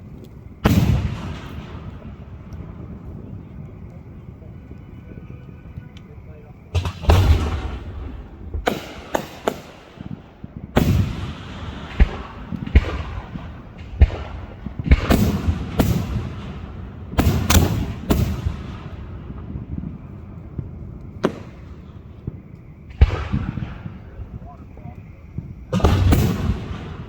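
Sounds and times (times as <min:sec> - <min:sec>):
firework shells booming: 0:00.0 - 0:05.0, 0:05.7 - 0:27.0.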